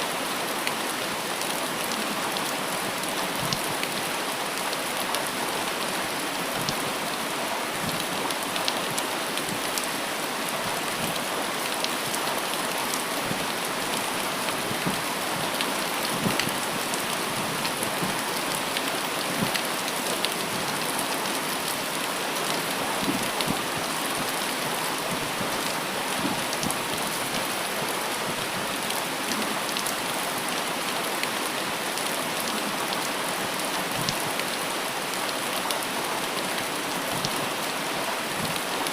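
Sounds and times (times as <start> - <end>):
raindrops ticking on surfaces: 0.2 - 38.9.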